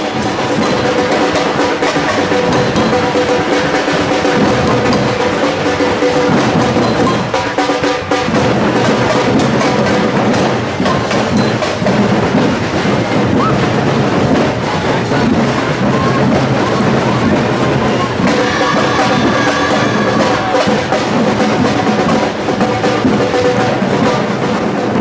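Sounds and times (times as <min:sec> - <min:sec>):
band instruments playing: 0:00.0 - 0:25.0
parade band drumming: 0:00.0 - 0:25.0.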